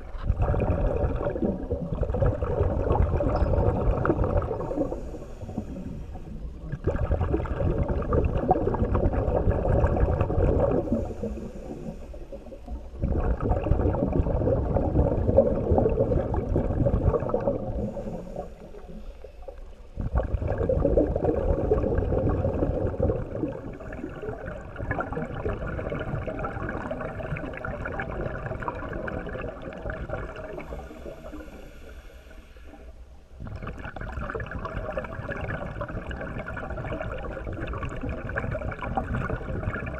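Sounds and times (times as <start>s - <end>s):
diver exhaling bubbles underwater: 0.0s - 19.0s, 20.0s - 31.8s, 33.4s - 39.9s.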